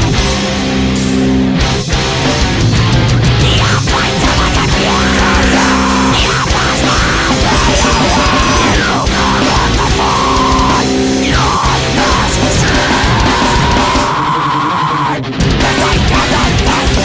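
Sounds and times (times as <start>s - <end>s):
heavy rock music with guitar: 0.0s - 17.0s.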